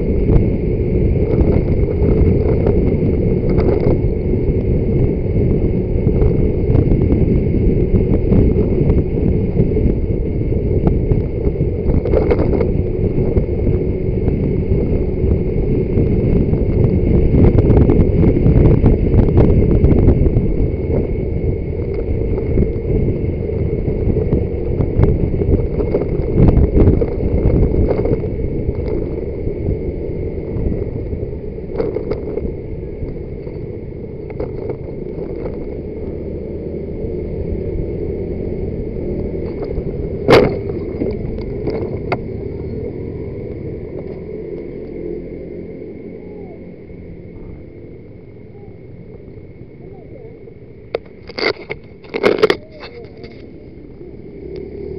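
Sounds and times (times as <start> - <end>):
motorbike engine and road rumble: 0.0 - 54.9
wind rushing over microphone: 0.0 - 54.9.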